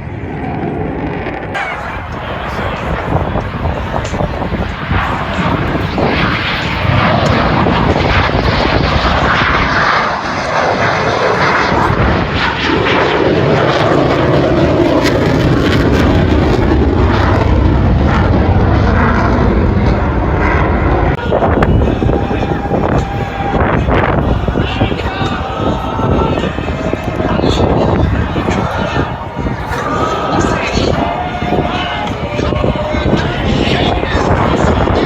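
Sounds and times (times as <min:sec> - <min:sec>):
jet engines flying past: 0:00.0 - 0:35.0.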